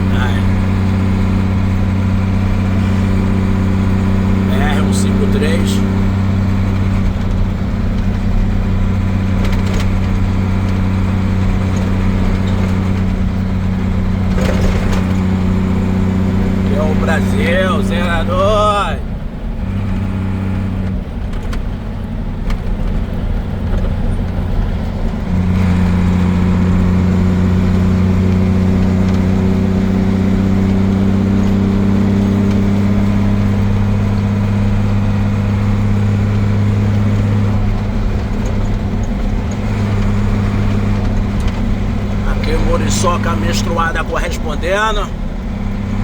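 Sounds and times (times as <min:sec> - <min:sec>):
truck diesel engine drone: 0:00.0 - 0:46.0.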